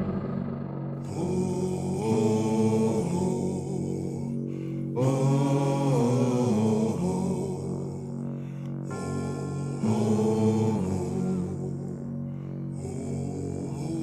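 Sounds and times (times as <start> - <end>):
chant-like tones over low drone: 0.0 - 14.0.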